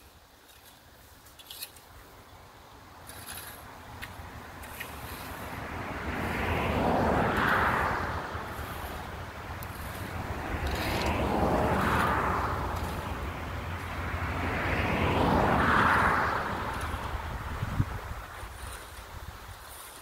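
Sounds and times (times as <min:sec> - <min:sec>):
motor vehicle approaching: 0:02.9 - 0:19.0.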